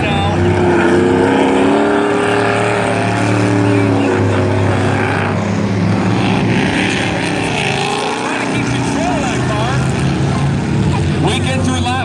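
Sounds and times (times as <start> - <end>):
race truck engines accelerating: 0.0 - 12.0.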